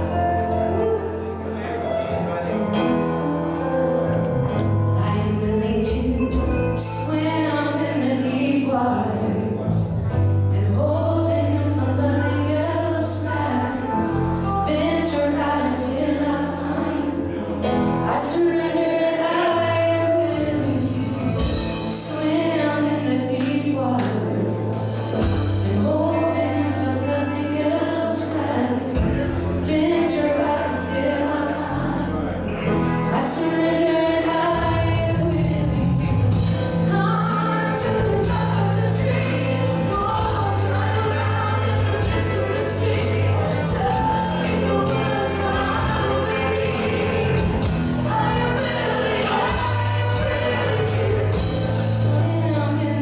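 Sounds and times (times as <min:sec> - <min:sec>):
bass guitar: 0:00.0 - 0:53.0
keyboard: 0:00.0 - 0:53.0
woman singing: 0:05.0 - 0:17.4, 0:18.0 - 0:53.0.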